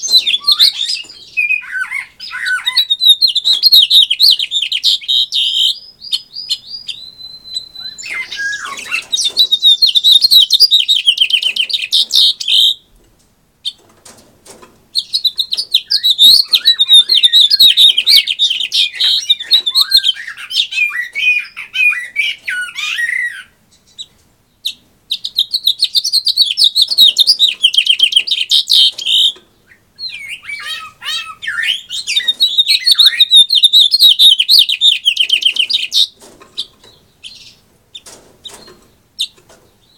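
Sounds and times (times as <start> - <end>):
finch singing: 0.0 - 12.9, 14.9 - 39.9.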